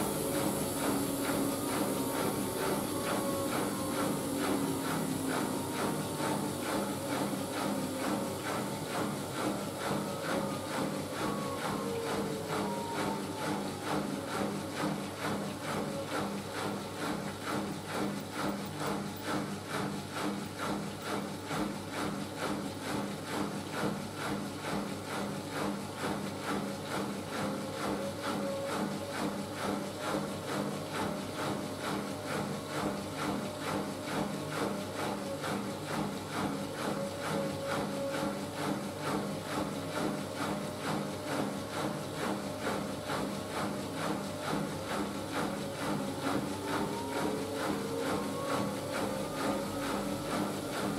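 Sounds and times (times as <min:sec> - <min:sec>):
faint motor whine: 0:00.0 - 0:50.9.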